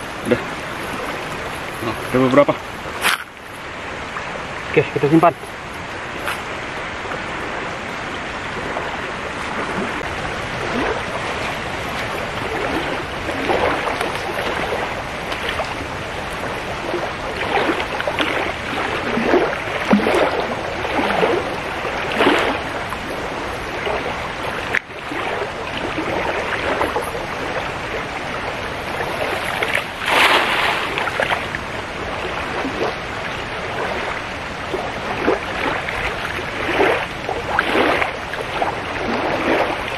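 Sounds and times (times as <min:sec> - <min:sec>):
flood river rushing: 0:00.0 - 0:39.9
water splashes: 0:00.0 - 0:39.9.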